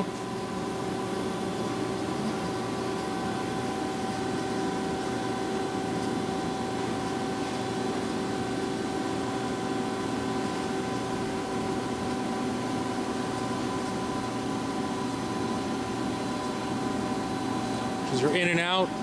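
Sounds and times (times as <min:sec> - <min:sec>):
machine hum with whining tones: 0:00.0 - 0:19.0.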